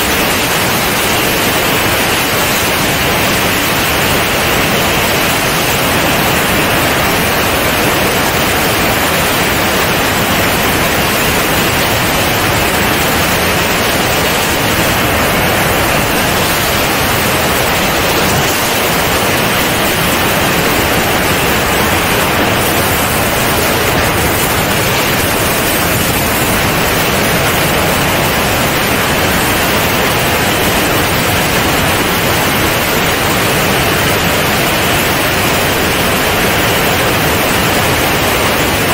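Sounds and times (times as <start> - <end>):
wind rushing over camera: 0.0 - 38.9.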